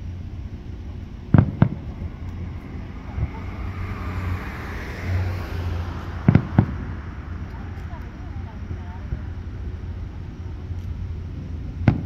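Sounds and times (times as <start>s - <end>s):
car passing: 0.0s - 12.0s
traffic rumble: 0.0s - 12.0s
fireworks bangs: 0.8s - 12.0s.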